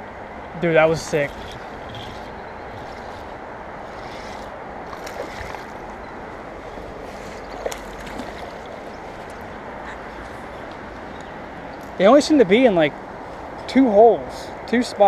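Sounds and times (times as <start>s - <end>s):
flowing creek water: 0.1s - 13.6s.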